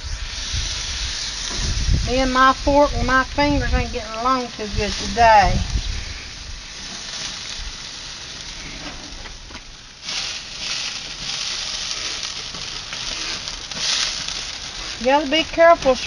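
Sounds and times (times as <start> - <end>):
steaks sizzling on a grill: 0.0 - 16.0
water hissing on hot coals: 0.0 - 16.0.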